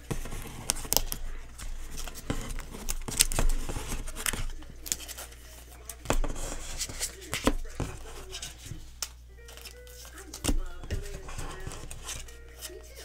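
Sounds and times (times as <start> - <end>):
cards clicking and rustling: 0.0 - 13.0.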